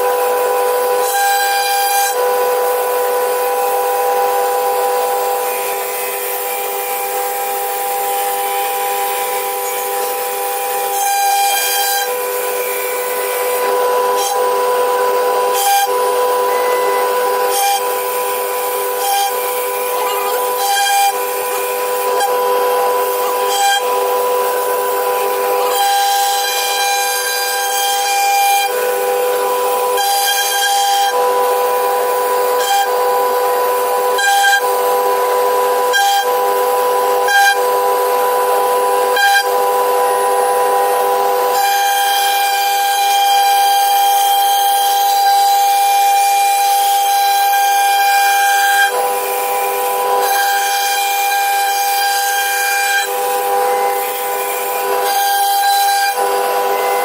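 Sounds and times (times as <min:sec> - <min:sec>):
router spindle whining: 0:00.0 - 0:57.0
wood cutting hiss: 0:00.4 - 0:57.0.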